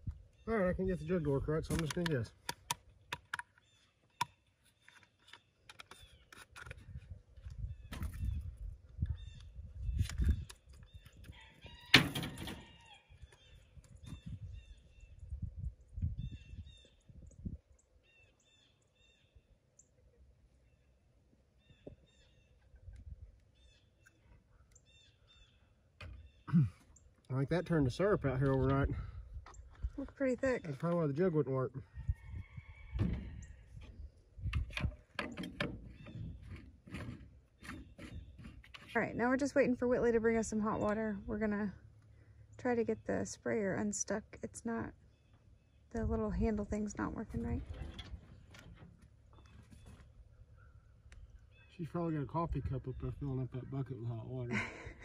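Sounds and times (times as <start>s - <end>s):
birds chirping: 0.0s - 11.9s, 12.6s - 55.0s.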